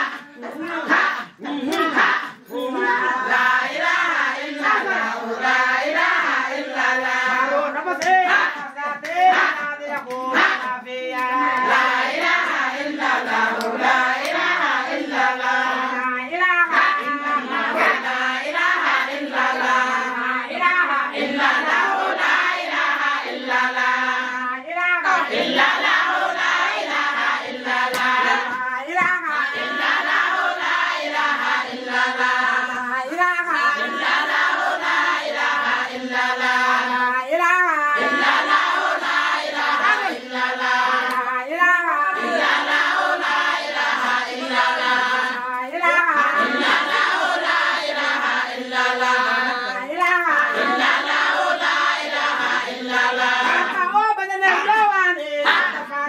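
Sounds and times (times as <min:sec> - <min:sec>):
women singing in chorus: 0:00.0 - 0:56.0.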